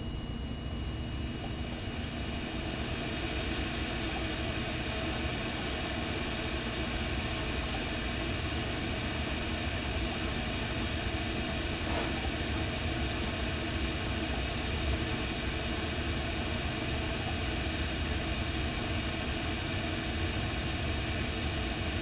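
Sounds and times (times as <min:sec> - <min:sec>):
computer cooling fans: 0:00.0 - 0:22.0
disc drive spinning: 0:00.0 - 0:22.0.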